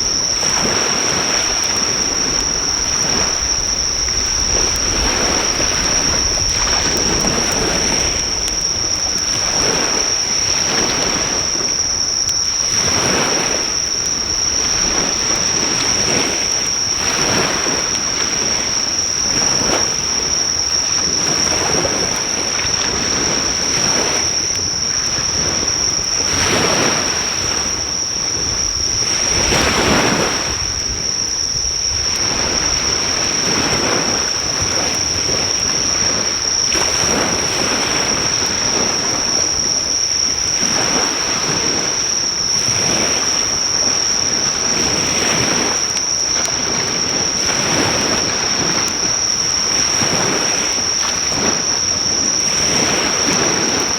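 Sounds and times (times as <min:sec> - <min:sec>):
high-pitched insect drone: 0:00.0 - 0:53.9
sea waves breaking on shore: 0:00.0 - 0:53.9.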